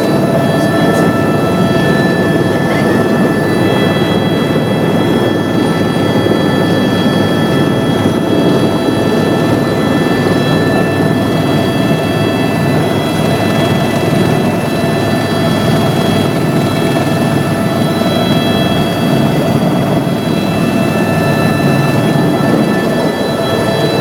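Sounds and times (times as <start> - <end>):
faint whining tones: 0.0 - 24.0
helicopter engine and rotor: 0.0 - 24.0.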